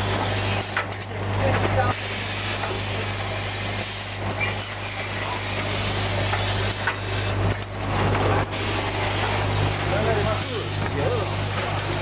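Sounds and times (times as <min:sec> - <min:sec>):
packing machine running: 0:00.0 - 0:12.0.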